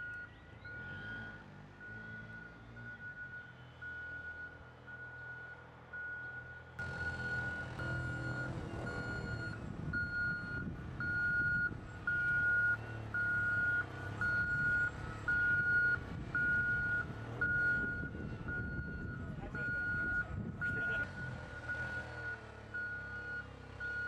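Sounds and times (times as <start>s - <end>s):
low rumble of vehicle engine: 0.0s - 24.0s
vehicle reversing beeper: 0.0s - 24.0s.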